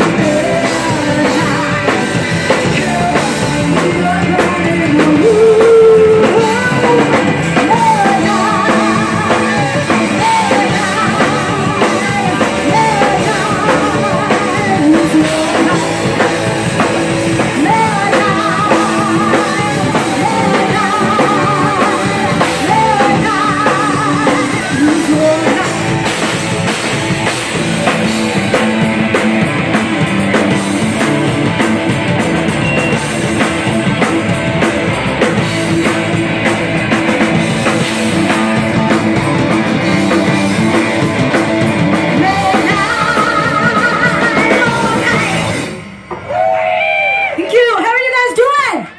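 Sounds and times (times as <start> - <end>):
woman singing lead: 0.0 - 31.6, 37.3 - 45.8
heavy metal band playing: 0.0 - 48.9.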